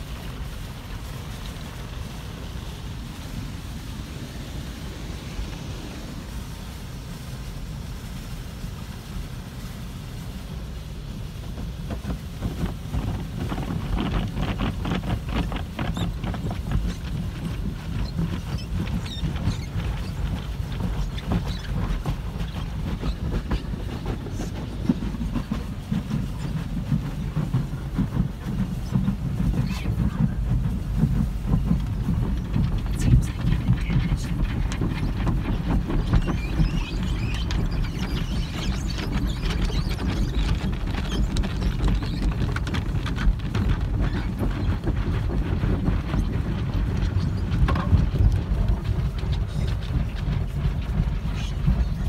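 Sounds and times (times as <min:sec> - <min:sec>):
cloth brushes slapping car: 0:00.0 - 0:52.0
low rumble: 0:00.0 - 0:52.0
water spraying: 0:00.0 - 0:52.0.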